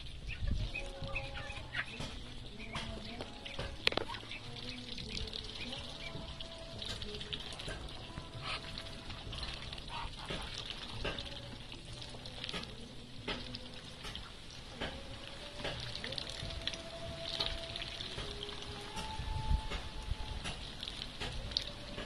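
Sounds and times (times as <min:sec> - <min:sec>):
ducks dabbling in water: 0:00.0 - 0:22.0.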